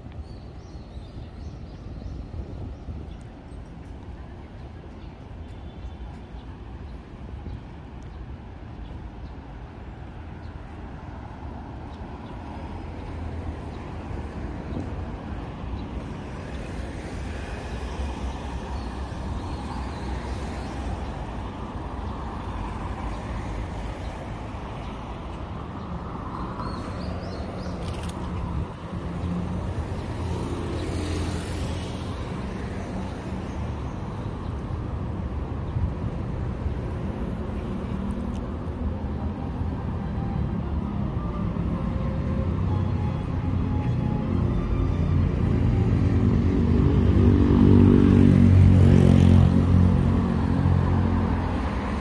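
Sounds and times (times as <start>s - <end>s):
cars passing rumble: 0.0s - 52.0s.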